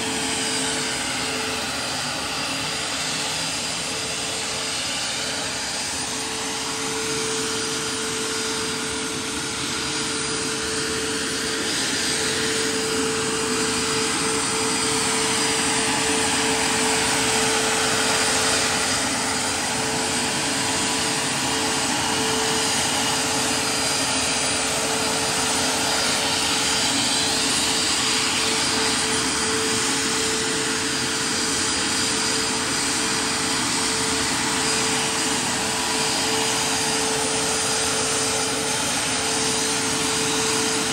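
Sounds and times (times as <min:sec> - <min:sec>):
model helicopter whine: 0:00.0 - 0:40.9.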